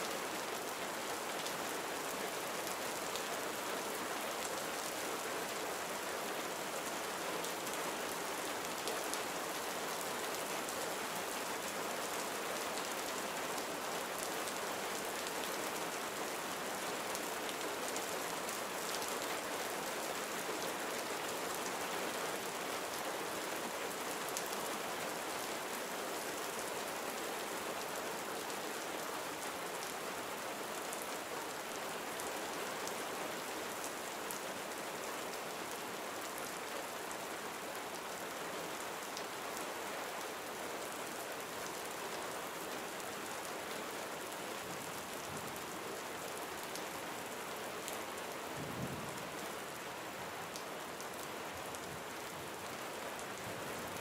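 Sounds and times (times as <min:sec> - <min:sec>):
gentle rain falling: 0:00.0 - 0:54.0.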